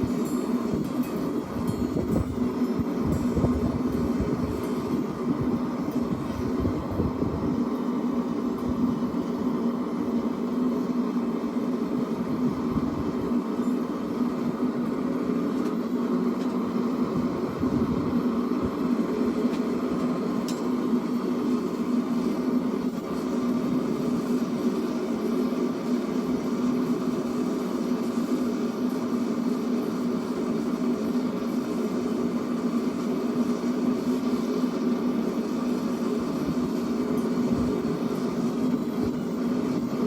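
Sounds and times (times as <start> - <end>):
shop machinery roaring: 0.0 - 40.0.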